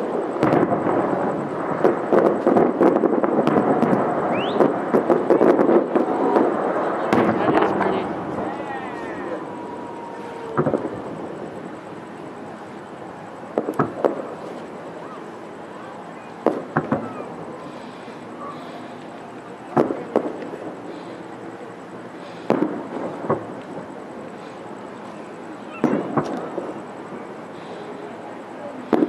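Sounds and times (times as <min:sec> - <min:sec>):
firework shells bursting: 0:00.0 - 0:21.4, 0:22.1 - 0:28.0.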